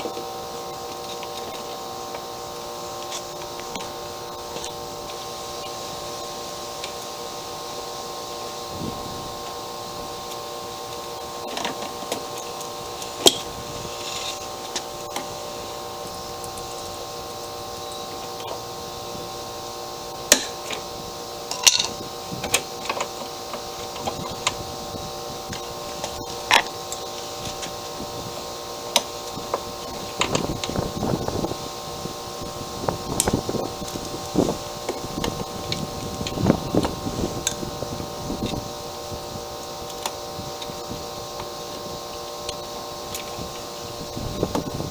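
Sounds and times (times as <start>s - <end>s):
steady background hum: 0.0s - 44.9s.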